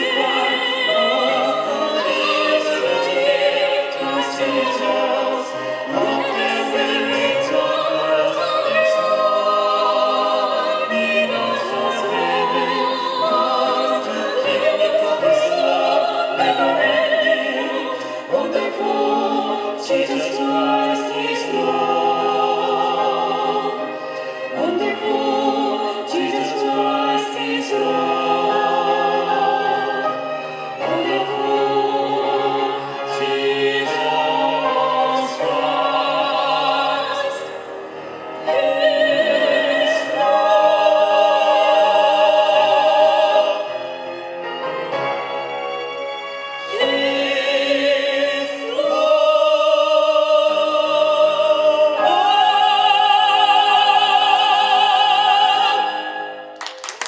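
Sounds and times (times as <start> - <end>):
orchestral accompaniment: 0.0 - 57.0.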